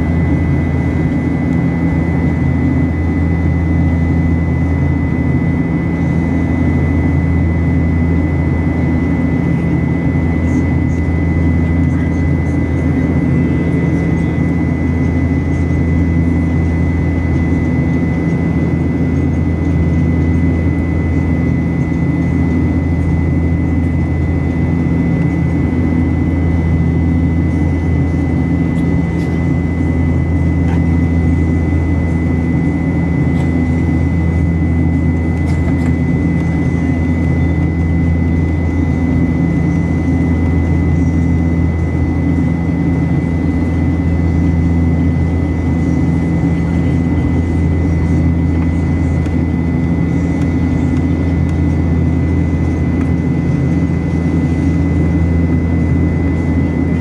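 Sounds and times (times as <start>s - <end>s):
jet engine cabin hum: 0.0s - 57.0s.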